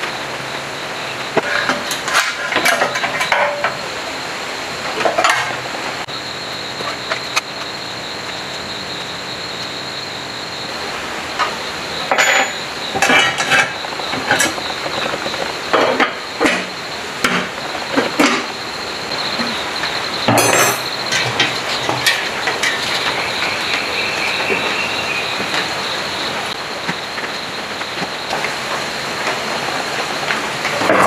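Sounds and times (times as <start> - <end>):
steady hiss with high tone: 0.0 - 31.0.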